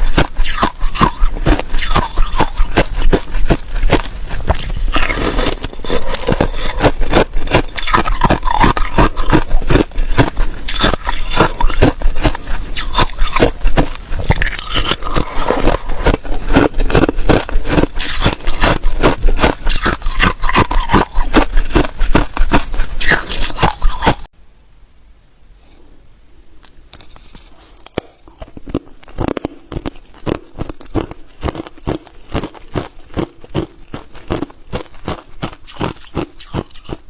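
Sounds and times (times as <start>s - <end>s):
ice cubes crunching when chewed: 0.0s - 24.3s, 27.6s - 37.0s.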